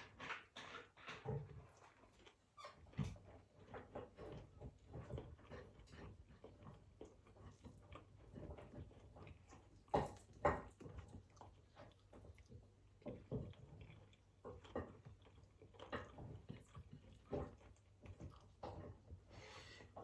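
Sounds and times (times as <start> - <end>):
person chewing food: 1.7 - 2.6, 3.4 - 20.0.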